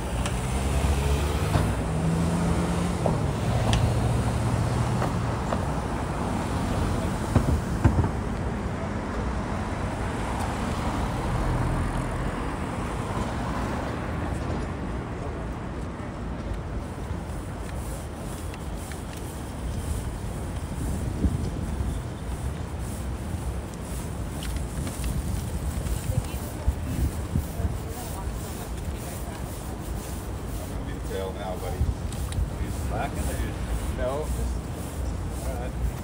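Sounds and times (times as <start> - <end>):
steady traffic hum: 0.0 - 36.0
vehicle engines idling and passing: 0.0 - 36.0.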